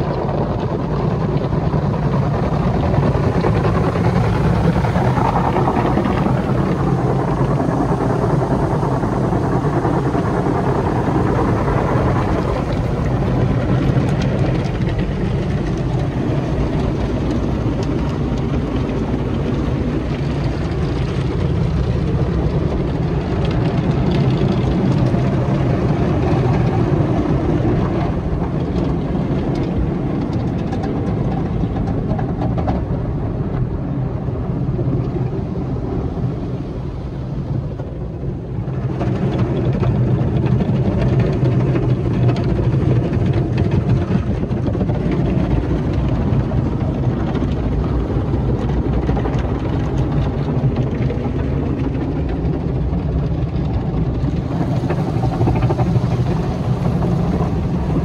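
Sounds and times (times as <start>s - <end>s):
car wash brushes and water spray: 0.1s - 58.0s.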